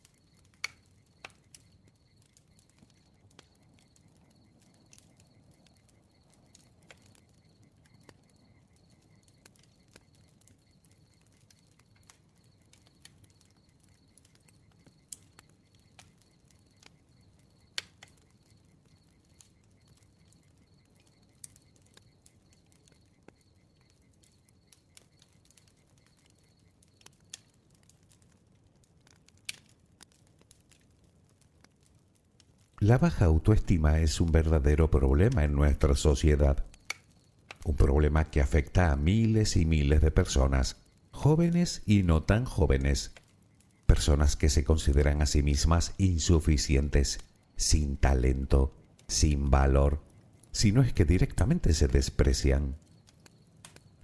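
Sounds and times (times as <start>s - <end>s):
bonfire crackling and popping: 0.0s - 54.0s.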